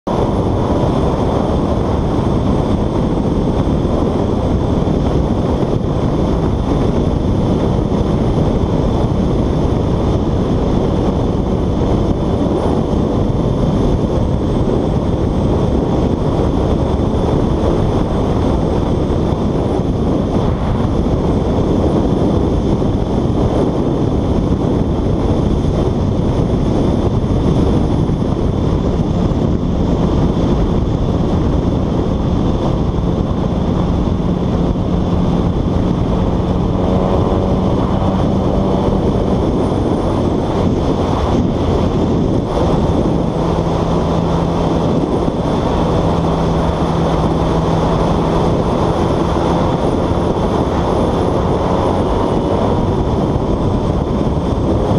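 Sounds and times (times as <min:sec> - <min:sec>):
road noise: 0:00.0 - 0:54.9
wind rushing over microphone: 0:00.0 - 0:54.9.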